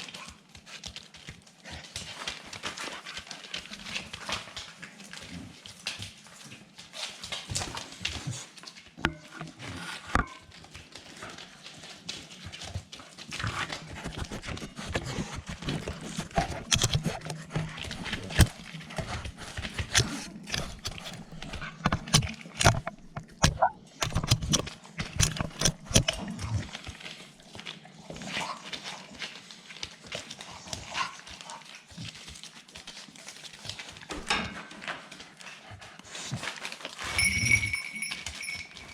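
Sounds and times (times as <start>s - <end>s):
clicks and knocks from paws: 0.0s - 38.9s
puppies scuffling and playing: 0.0s - 38.9s.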